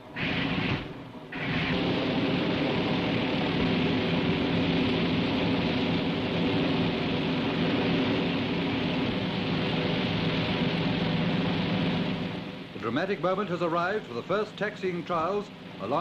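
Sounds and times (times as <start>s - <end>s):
piston aircraft engines droning: 0.0s - 16.0s.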